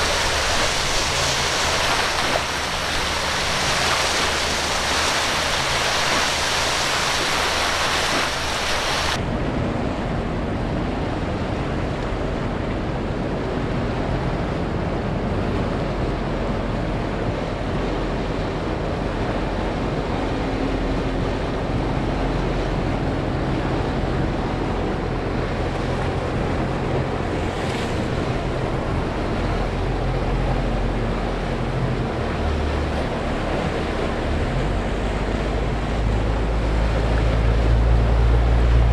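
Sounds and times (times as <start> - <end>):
faint boat engine drone: 0.0 - 38.9
waves washing: 0.0 - 38.9
wind buffeting microphone: 0.0 - 38.9.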